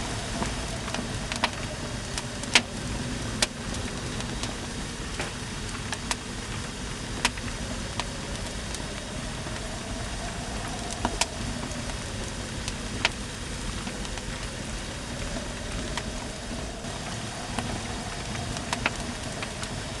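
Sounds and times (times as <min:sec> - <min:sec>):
fire crackling and popping: 0:00.0 - 0:20.0
low rushing noise: 0:00.0 - 0:20.0.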